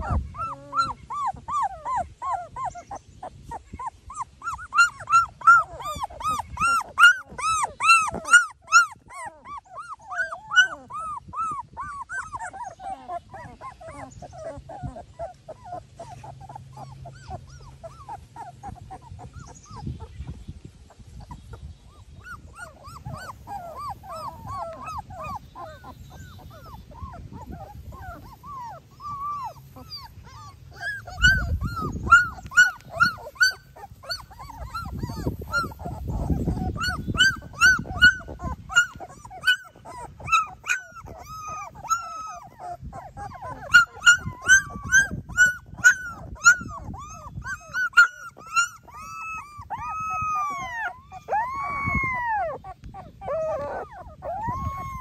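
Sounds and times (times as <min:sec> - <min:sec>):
puppies whimpering and squeaking: 0:00.0 - 0:55.0.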